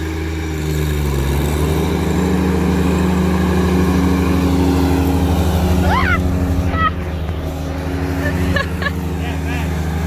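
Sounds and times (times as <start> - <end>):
tractor engine mowing grass: 0.0 - 10.0.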